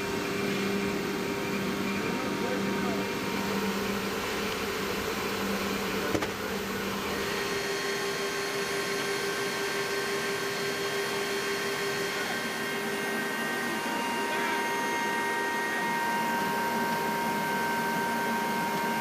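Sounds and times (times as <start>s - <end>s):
mechanical whir with hum: 0.0s - 19.0s.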